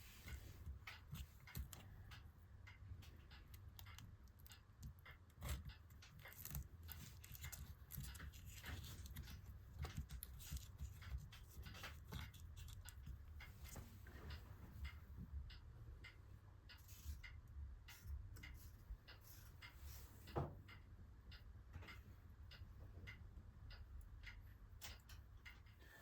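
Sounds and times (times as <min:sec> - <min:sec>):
small clicks and taps of tools: 0:00.1 - 0:26.0.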